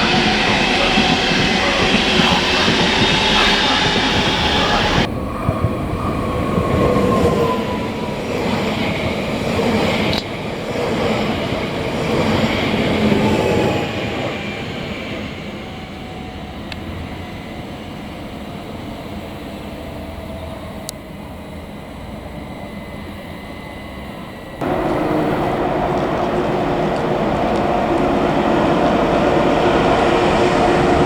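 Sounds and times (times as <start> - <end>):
train rumbling on tracks: 0.0 - 31.0.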